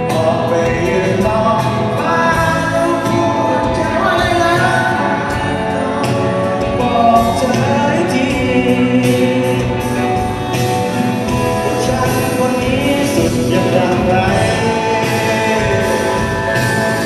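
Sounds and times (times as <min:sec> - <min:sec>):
drum kit with cymbals: 0:00.0 - 0:17.0
electric guitars: 0:00.0 - 0:17.0
person singing: 0:00.0 - 0:17.0.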